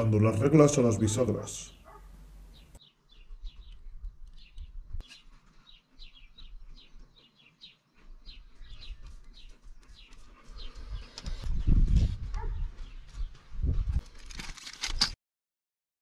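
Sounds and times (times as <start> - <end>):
small birds chirping: 0.5 - 14.0.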